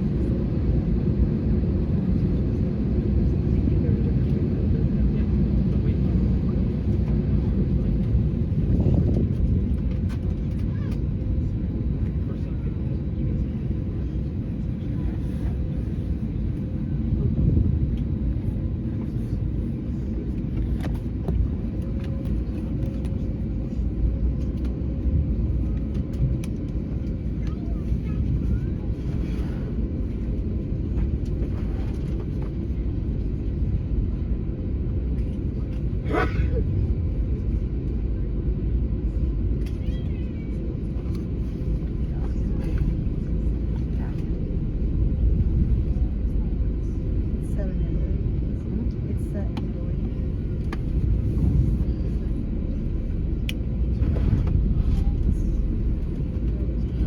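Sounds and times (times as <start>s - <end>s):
faint voices: 0.0s - 33.0s, 35.0s - 57.0s
airplane cabin rumble: 0.0s - 57.0s
faint constant hum: 4.8s - 57.0s.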